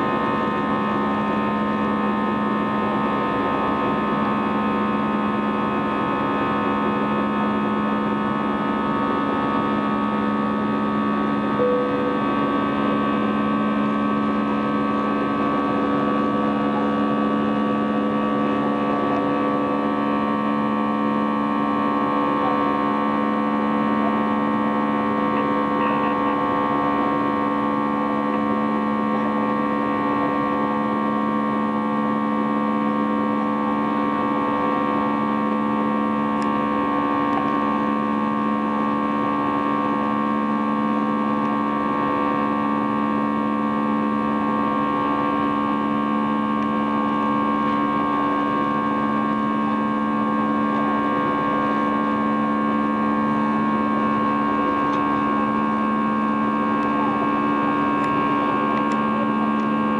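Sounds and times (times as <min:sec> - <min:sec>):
jet engines droning in cabin: 0:00.0 - 0:59.9.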